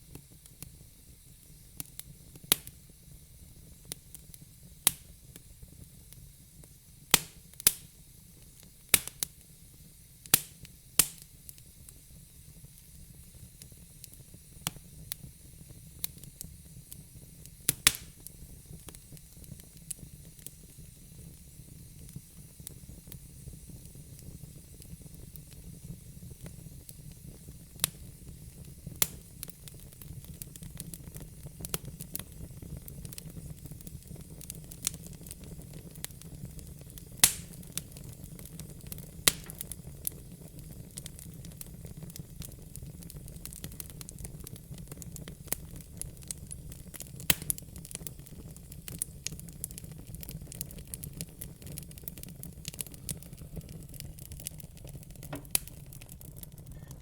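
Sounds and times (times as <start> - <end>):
burning logs popping: 0.0 - 3.0, 3.6 - 9.6, 10.2 - 57.0
wood fire rumble and hiss: 0.0 - 57.0.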